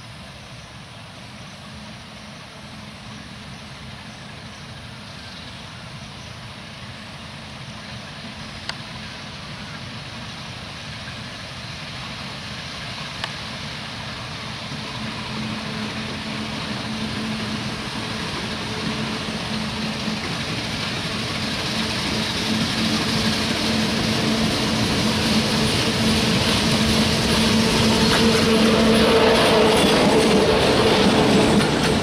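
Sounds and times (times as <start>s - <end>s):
diesel locomotive engine humming: 0.0s - 32.0s
train wheel noise: 0.0s - 32.0s.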